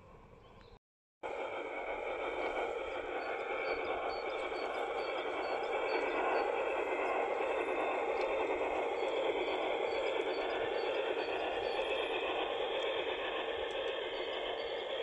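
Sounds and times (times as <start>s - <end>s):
model locomotive rushing noise: 1.2s - 15.0s.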